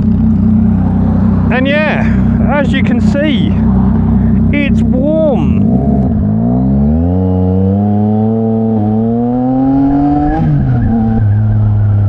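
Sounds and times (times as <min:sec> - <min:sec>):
motorcycle exhaust under acceleration: 0:00.0 - 0:12.0.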